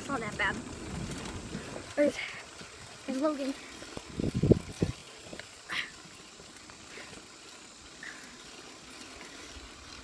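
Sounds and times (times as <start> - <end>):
bicycle rolling on pebbles: 0.0 - 10.0.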